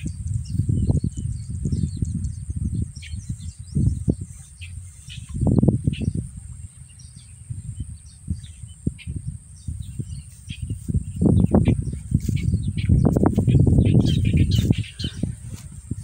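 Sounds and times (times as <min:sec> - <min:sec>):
birds chirping: 0:00.0 - 0:16.0
wind buffeting microphone: 0:00.0 - 0:16.0.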